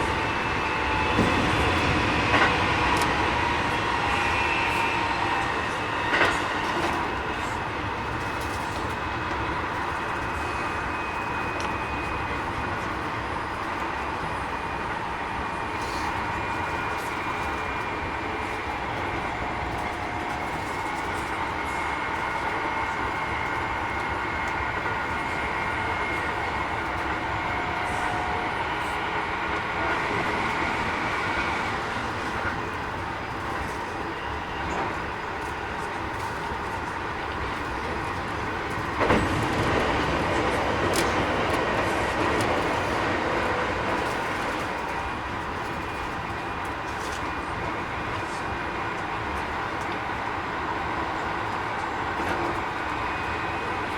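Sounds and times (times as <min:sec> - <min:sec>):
train drive whining tones: 0:00.0 - 0:53.9
wheel and rail noise: 0:00.0 - 0:53.9.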